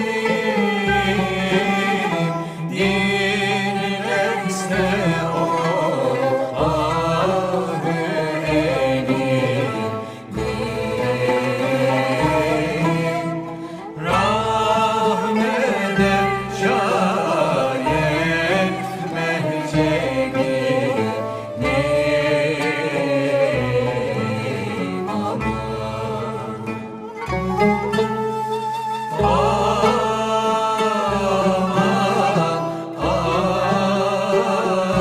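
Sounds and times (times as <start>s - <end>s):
instrumental accompaniment: 0.0s - 35.0s
ornamented vocal singing: 0.0s - 35.0s.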